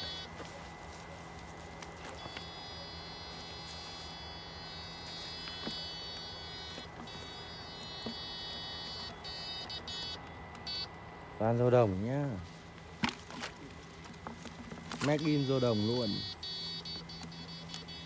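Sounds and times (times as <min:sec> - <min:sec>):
inverter high-pitched whine: 0:00.0 - 0:18.0
low hum: 0:00.0 - 0:18.0.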